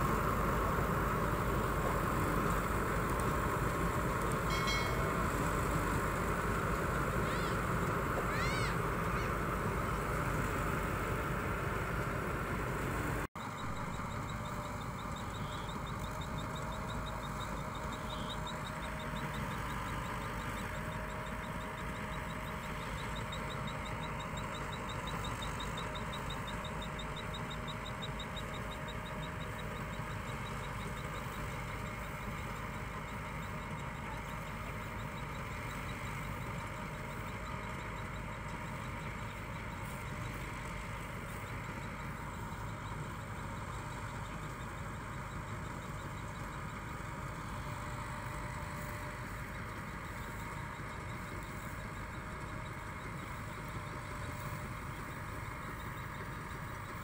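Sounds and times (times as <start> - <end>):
combine harvester engine running: 0.0 - 57.0.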